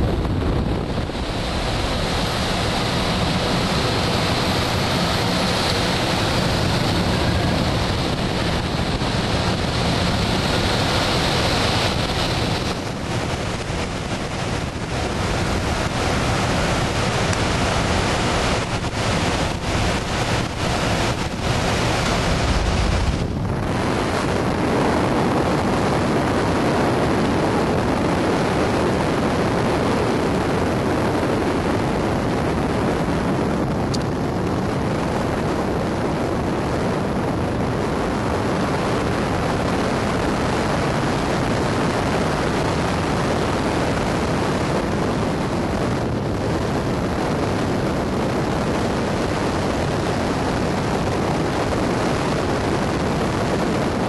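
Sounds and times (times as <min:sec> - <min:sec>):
airflow buffeting microphone: 0:00.0 - 0:54.0.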